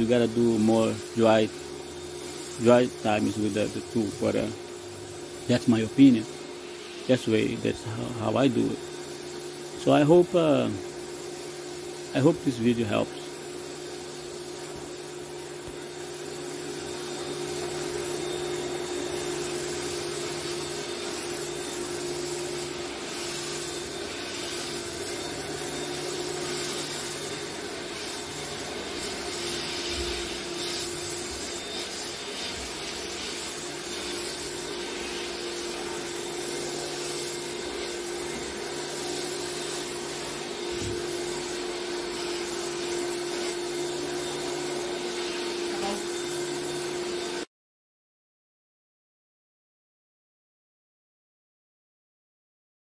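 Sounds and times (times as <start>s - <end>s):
vacuum running with steady whine: 0.0s - 47.5s.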